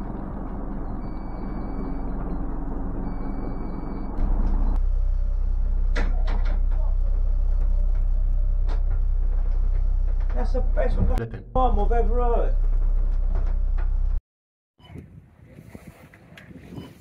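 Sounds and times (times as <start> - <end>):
boat engine running: 0.0 - 14.2
heavy low rumble: 0.0 - 14.2.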